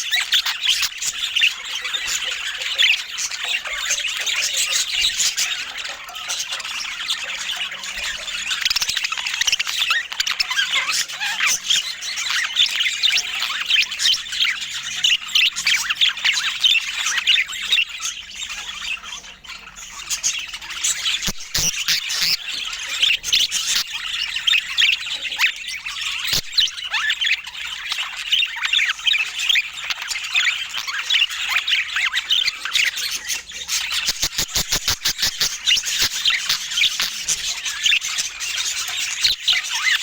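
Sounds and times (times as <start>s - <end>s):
budgerigars chattering and warbling: 0.0s - 40.0s.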